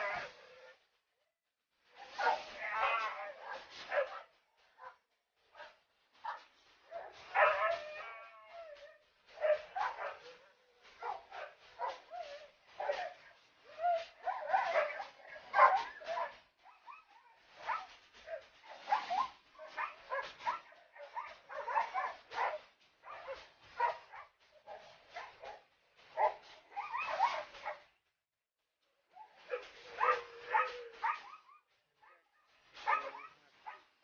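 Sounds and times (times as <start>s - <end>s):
husky barking and yelping: 0.0s - 0.9s, 2.0s - 28.0s, 29.1s - 34.0s.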